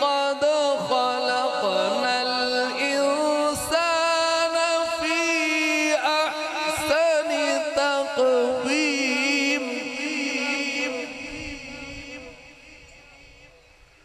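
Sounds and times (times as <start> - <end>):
man reciting melodically: 0.0 - 13.9.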